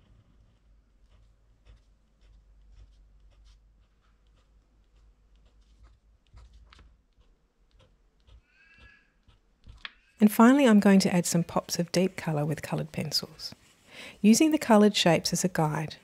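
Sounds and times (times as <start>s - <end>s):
pen scratching on paper: 0.4s - 9.8s, 10.4s - 13.8s.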